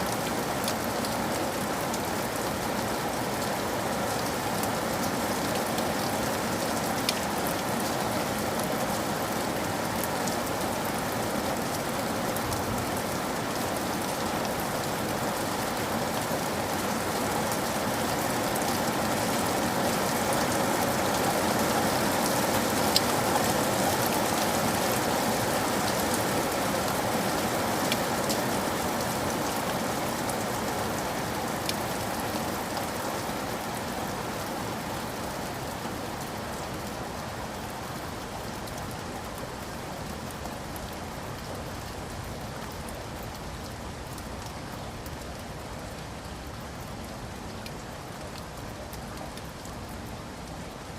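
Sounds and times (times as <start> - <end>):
steady rain patter: 0.0 - 50.9.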